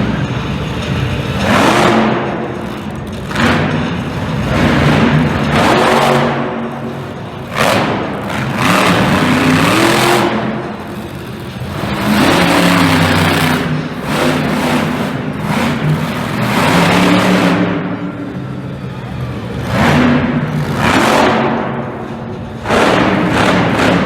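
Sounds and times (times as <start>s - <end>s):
truck engine revving hard: 0.0s - 24.0s.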